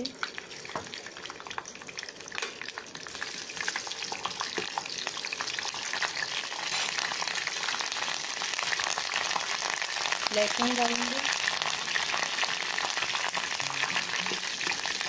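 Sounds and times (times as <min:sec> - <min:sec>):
leaves sizzling in hot oil: 0:00.0 - 0:15.0.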